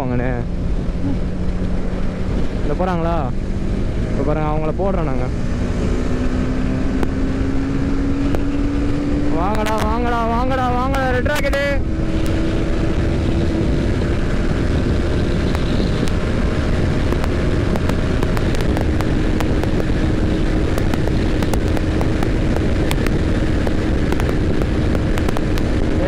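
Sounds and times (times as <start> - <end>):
motorcycle engine at steady revs: 0.0 - 26.0
wind rush on microphone: 0.0 - 26.0.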